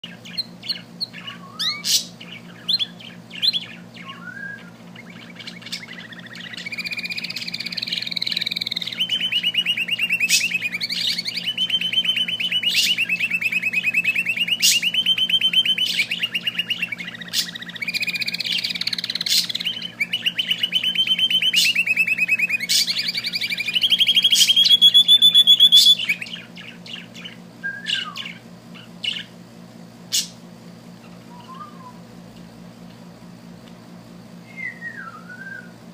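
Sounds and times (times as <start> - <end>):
small bird singing: 0.0 - 32.2, 32.8 - 35.9
steady low hum: 0.0 - 35.9.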